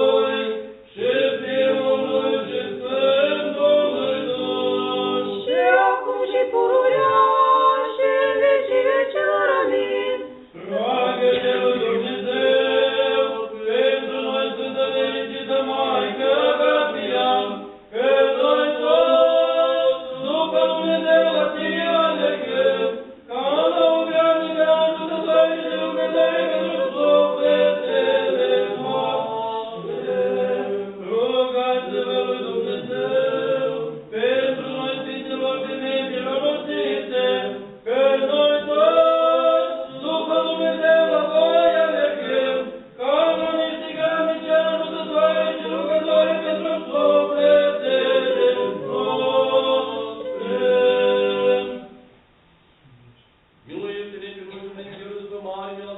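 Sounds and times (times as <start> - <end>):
voices chanting together: 0.0 - 52.1.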